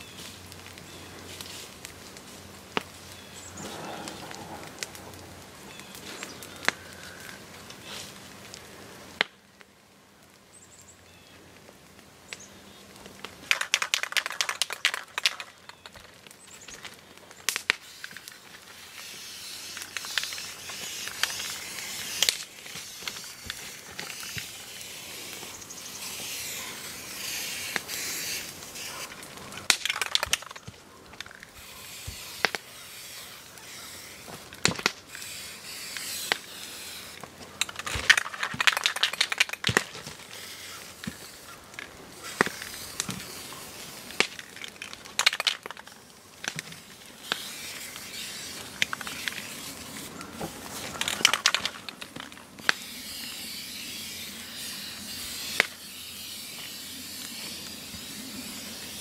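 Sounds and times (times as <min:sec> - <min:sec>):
sharp clicks and crackles: 0:00.0 - 0:59.0.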